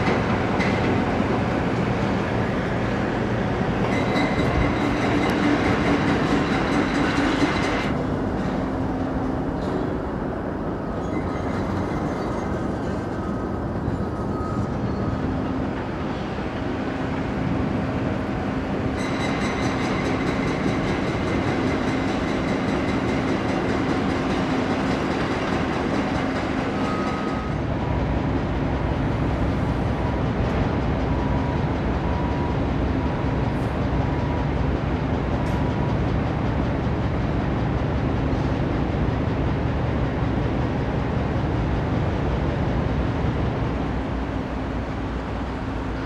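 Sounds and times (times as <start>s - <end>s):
diesel locomotive engine drone: 0.0s - 46.0s
train wheels on rails: 0.0s - 46.0s.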